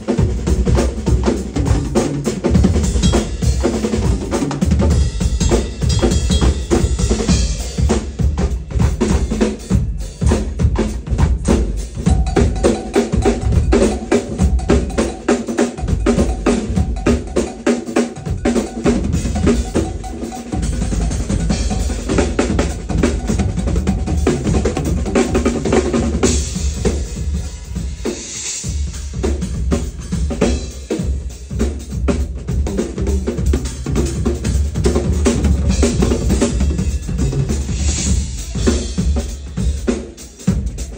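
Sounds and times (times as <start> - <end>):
snare and tom fills: 0.0 - 40.9.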